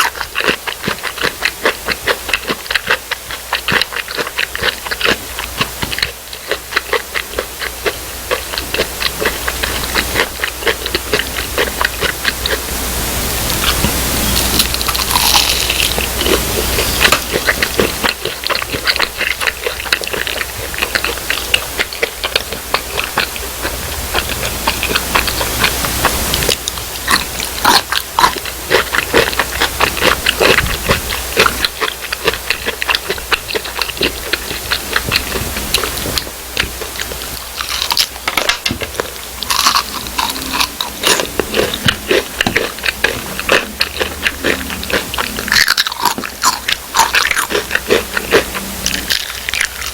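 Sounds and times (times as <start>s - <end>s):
person crunching crispy food: 0.0s - 49.9s.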